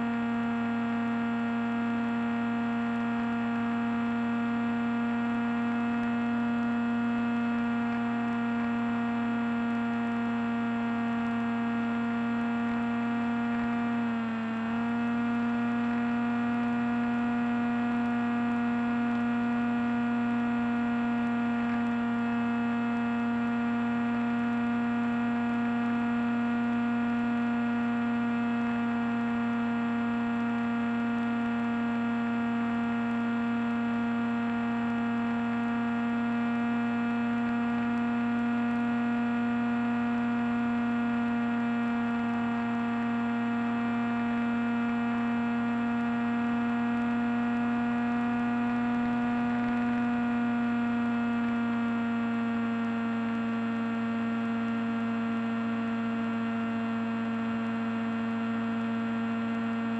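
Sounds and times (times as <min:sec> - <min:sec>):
electric motor and propeller drone: 0:00.0 - 0:59.9
electrical whine: 0:00.0 - 0:59.9.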